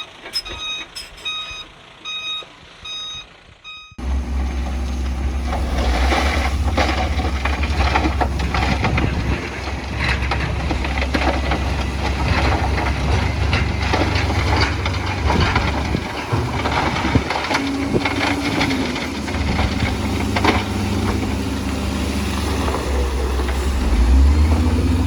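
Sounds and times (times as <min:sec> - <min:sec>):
heavy diesel machinery running: 0:00.0 - 0:25.0
rocks crunching and clattering: 0:04.0 - 0:25.0.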